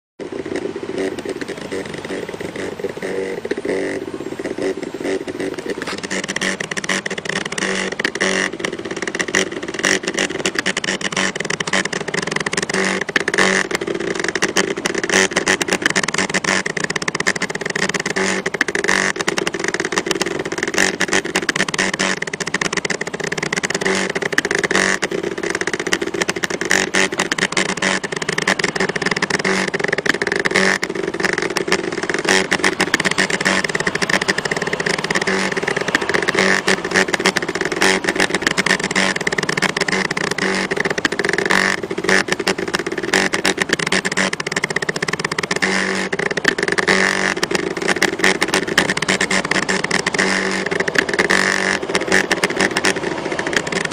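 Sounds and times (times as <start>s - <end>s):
rapid clicking: 0.2s - 53.9s
stepper motors buzzing: 0.2s - 53.9s.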